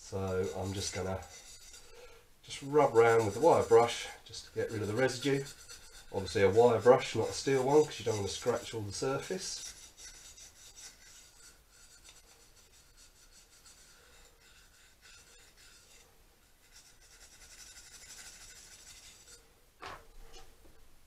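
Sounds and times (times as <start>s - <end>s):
wire brush scratching metal: 0.0s - 1.9s, 2.5s - 16.0s, 16.7s - 19.4s.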